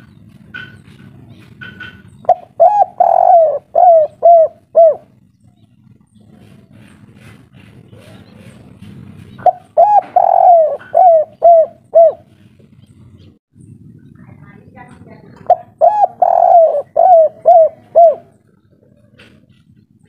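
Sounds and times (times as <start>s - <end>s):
dove cooing: 0.1s - 13.3s, 15.2s - 20.0s.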